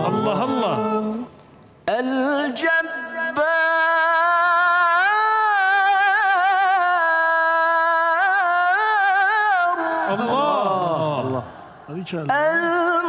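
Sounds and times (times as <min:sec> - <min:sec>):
man reciting in melodic style: 0:00.0 - 0:13.0.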